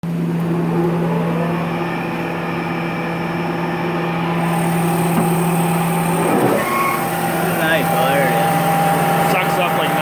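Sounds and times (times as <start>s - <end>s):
woodworking machinery humming: 0.1s - 10.0s.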